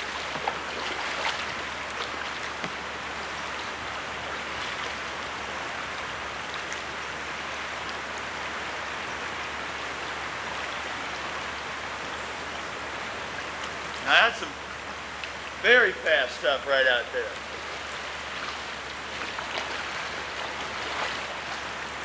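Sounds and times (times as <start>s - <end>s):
small water splashes: 0.0s - 14.0s, 17.3s - 22.0s
river water rushing: 0.0s - 22.0s.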